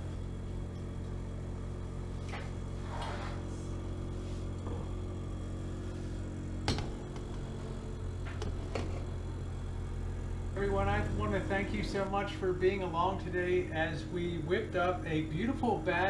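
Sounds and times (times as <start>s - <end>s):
oven fan motor hum: 0.0s - 16.0s.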